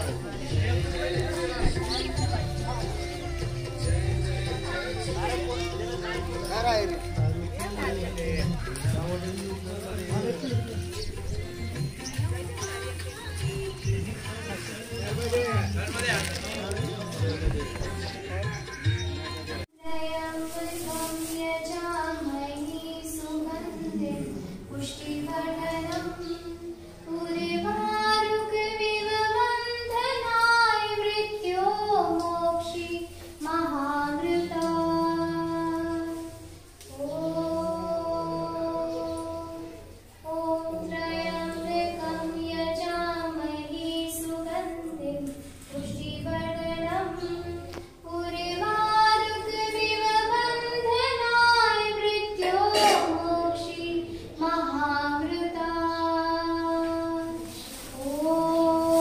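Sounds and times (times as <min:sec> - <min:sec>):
high voice singing devotional song: 0:00.0 - 0:15.8, 0:19.8 - 0:59.0.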